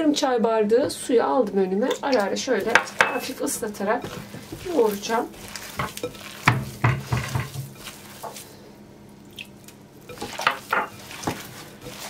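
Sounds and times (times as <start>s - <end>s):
hands kneading wet meat mixture: 2.1s - 12.0s.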